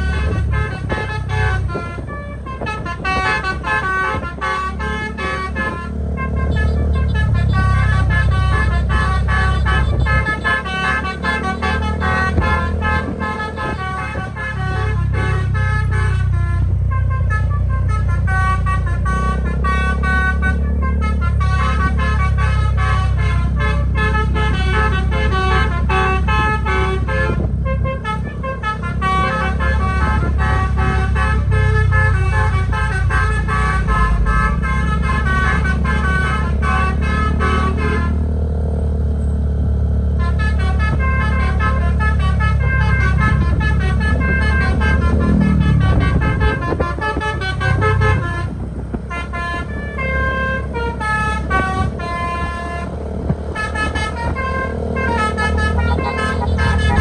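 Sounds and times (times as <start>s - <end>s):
bus horn playing tooting melody: 0.0s - 38.7s, 39.8s - 57.0s
bus engine rumble: 0.0s - 57.0s.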